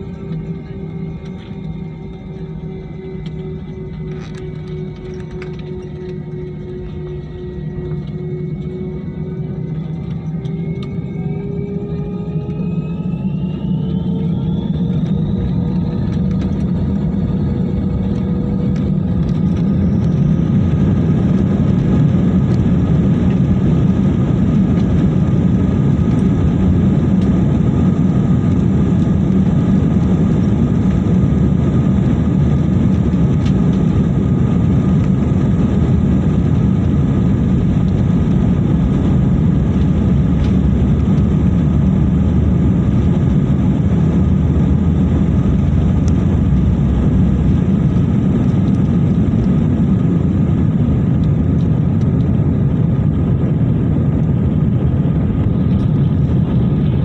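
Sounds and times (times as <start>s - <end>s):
faint engine whine: 0.0s - 57.0s
jet engines rumbling: 0.0s - 57.0s.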